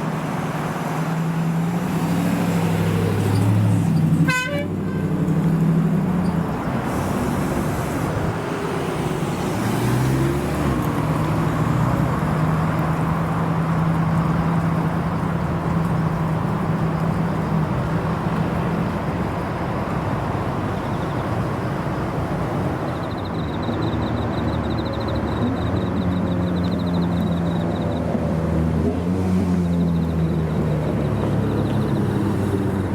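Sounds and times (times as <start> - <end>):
car engine droning: 0.0 - 32.9
traffic noise: 0.0 - 32.9.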